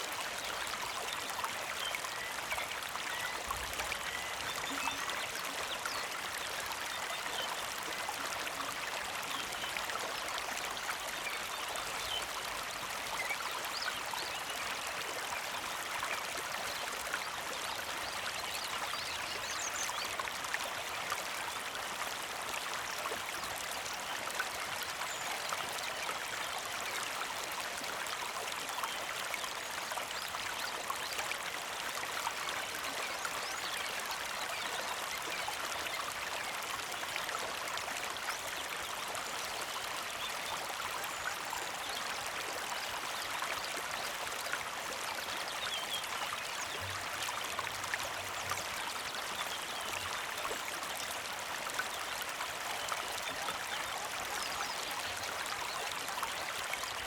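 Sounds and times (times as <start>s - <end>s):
creek trickling over stones: 0.0s - 57.0s.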